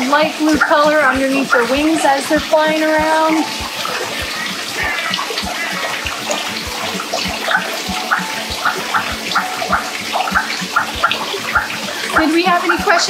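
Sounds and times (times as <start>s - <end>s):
regular water plop: 0.0s - 13.0s
water splashing and trickling: 0.0s - 13.0s.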